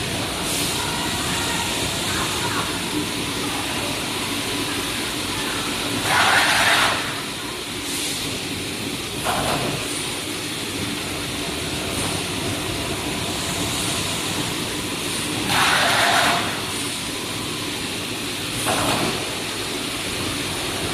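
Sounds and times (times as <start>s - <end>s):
welding machine running: 0.0s - 20.9s.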